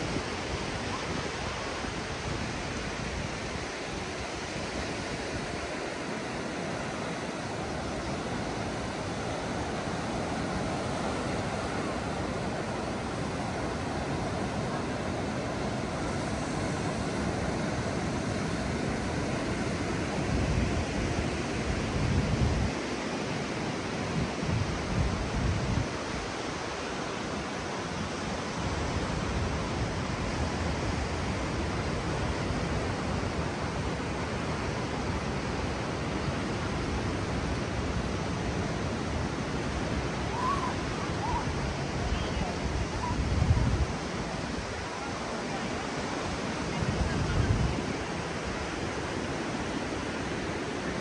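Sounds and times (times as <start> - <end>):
ocean surf on beach: 0.0 - 51.0.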